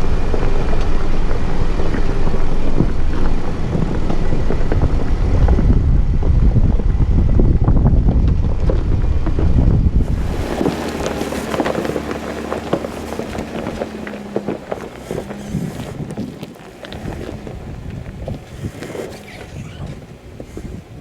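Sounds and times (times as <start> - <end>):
car engine running low: 0.0 - 21.0
tires crunching over gravel: 0.0 - 21.0.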